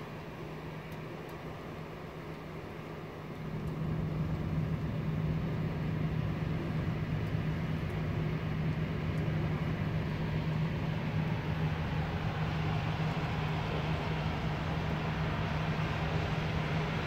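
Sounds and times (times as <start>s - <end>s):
low drone of city noise: 0.0s - 17.0s
low humming tone: 3.3s - 17.0s.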